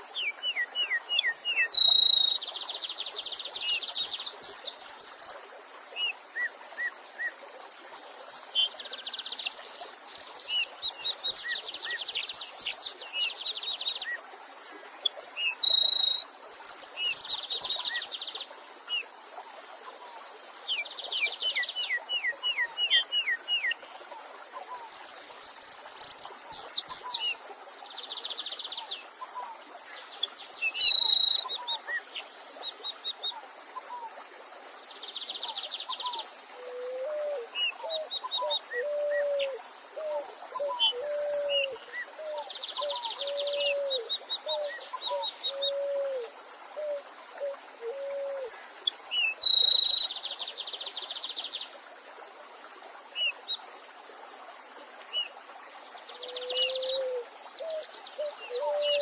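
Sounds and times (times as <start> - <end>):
stream hissing: 0.0 - 59.0.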